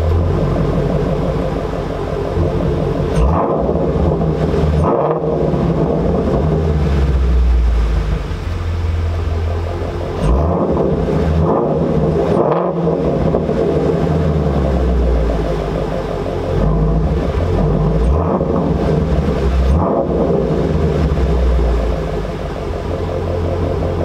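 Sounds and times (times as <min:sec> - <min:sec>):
car exhaust with throttle blips: 0:00.0 - 0:24.0.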